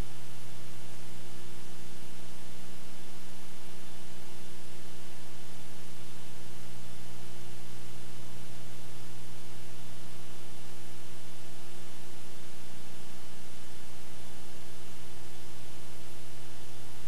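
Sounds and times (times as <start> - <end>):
low electrical hum: 0.0 - 17.0
tape hiss: 0.0 - 17.0.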